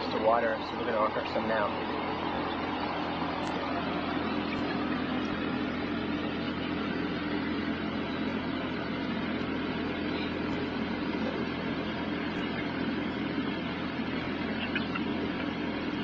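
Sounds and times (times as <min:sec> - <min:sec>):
constant hiss: 0:00.0 - 0:16.0
steady mechanical hum: 0:00.0 - 0:16.0.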